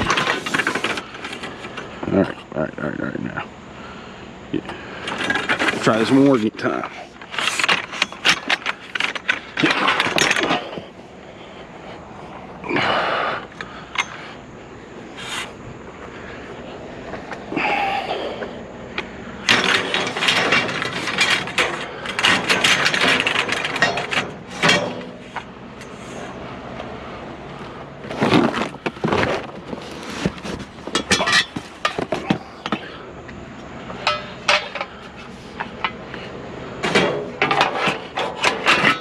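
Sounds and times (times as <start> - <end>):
scrap metal clanking and rattling: 0.0 - 2.5, 4.6 - 39.0.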